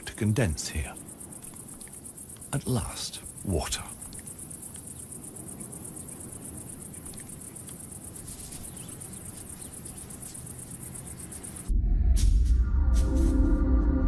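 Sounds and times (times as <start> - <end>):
low steady background noise: 0.0 - 11.7
insects chirping: 0.0 - 13.9.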